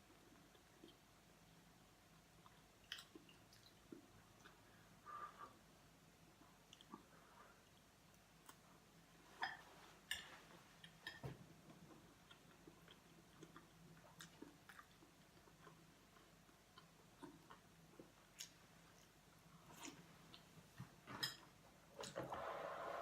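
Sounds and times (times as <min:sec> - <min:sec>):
soft chewing: 0:00.0 - 0:22.2.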